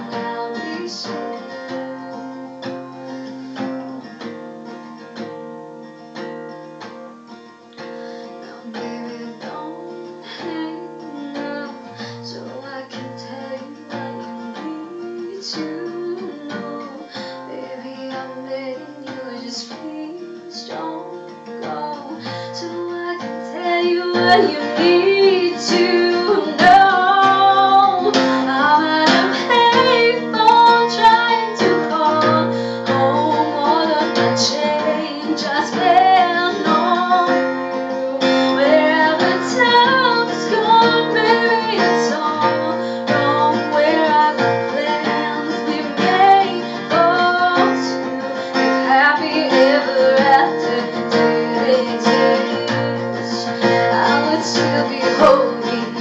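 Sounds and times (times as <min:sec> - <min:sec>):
woman singing: 0:00.0 - 0:04.8, 0:07.8 - 0:56.0
strummed acoustic guitar: 0:00.0 - 0:56.0.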